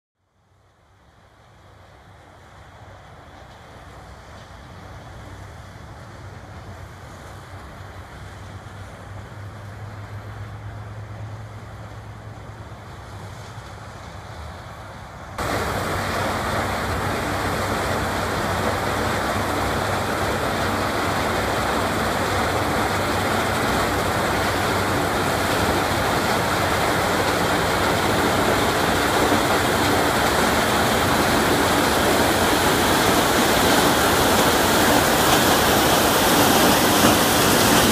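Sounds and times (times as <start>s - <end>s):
combine harvester roar: 4.2s - 37.9s.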